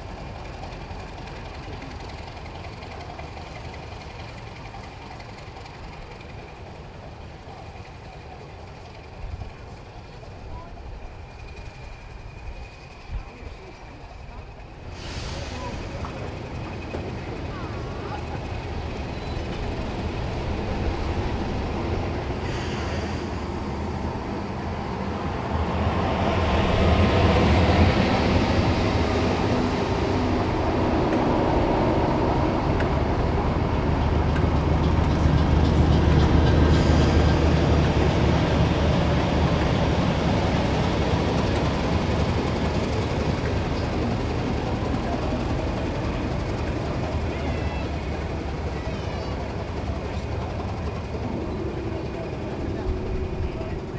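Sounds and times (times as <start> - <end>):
diesel locomotive engine running: 0.0 - 53.9.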